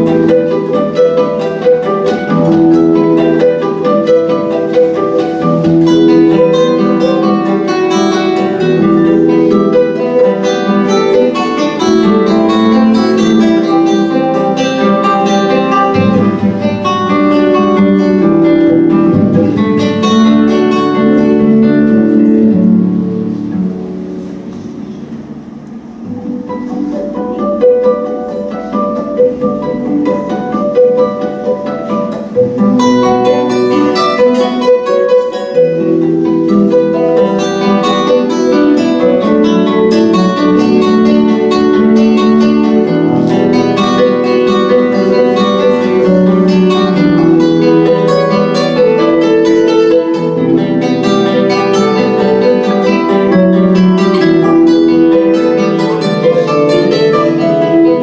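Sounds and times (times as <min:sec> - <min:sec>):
plucked string instruments duet: 0:00.0 - 0:58.0.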